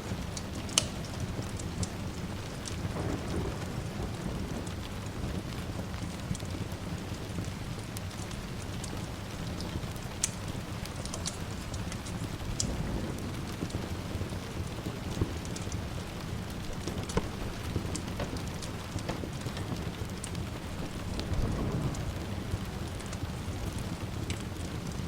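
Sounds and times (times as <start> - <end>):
steady rain: 0.0 - 25.0
distant thunder rumble: 1.0 - 25.0.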